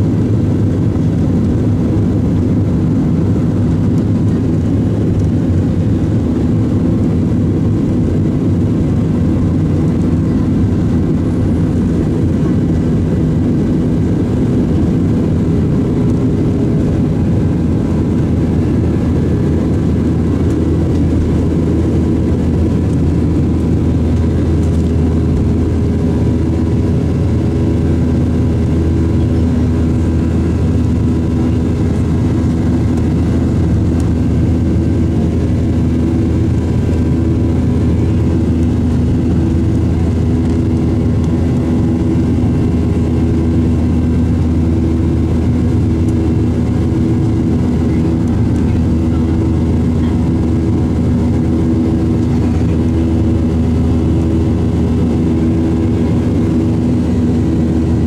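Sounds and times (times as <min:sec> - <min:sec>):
jet engines drone in cabin: 0:00.0 - 0:58.0.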